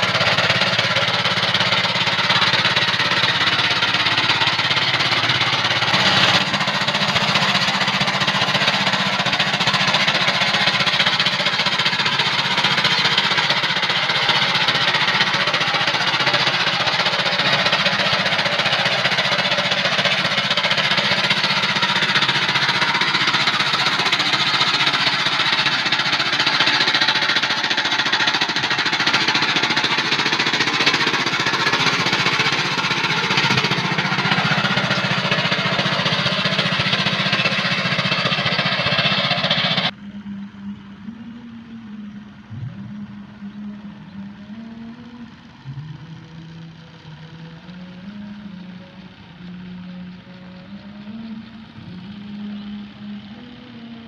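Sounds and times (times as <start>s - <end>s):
tractor engine knocking clatter: 0.0s - 40.0s, 43.2s - 54.0s.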